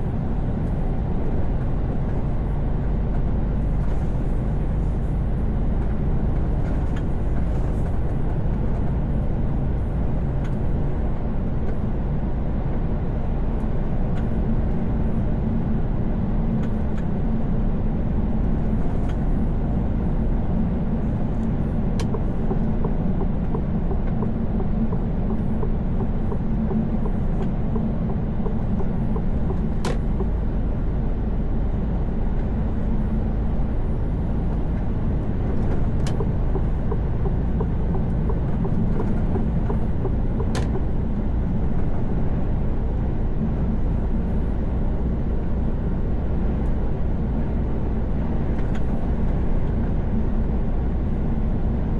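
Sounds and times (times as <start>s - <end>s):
truck engine and tyre rumble: 0.0s - 51.9s.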